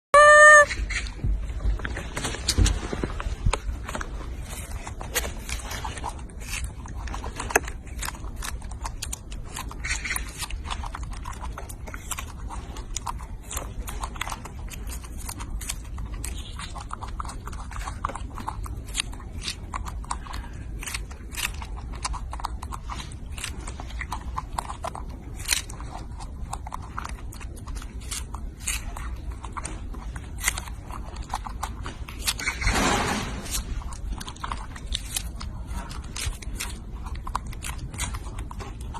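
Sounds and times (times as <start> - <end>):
low steady rumble: 0.2 - 38.9
monkey chewing: 0.2 - 38.9.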